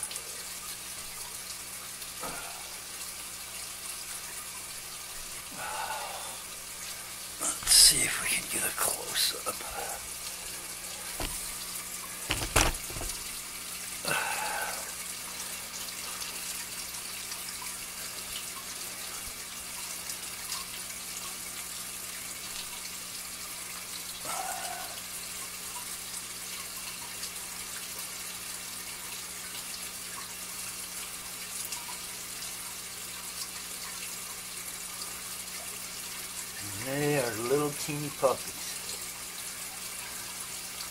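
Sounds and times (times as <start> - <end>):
trickle of running water: 0.0 - 40.9.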